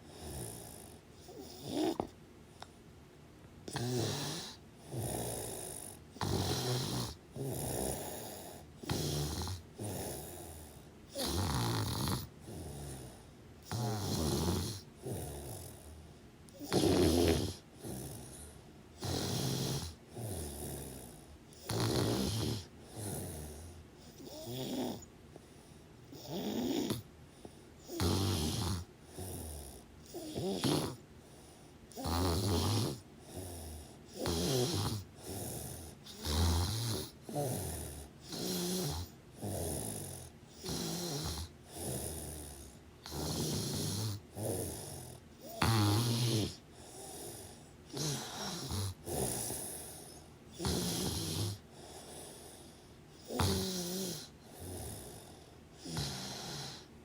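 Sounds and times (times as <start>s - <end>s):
loud snoring: 0.0s - 2.1s, 3.7s - 25.1s, 26.1s - 27.1s, 27.8s - 56.9s.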